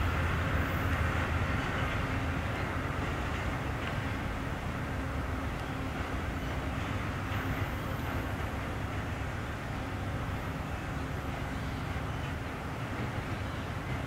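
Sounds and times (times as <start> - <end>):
diesel locomotive drone: 0.0 - 14.0.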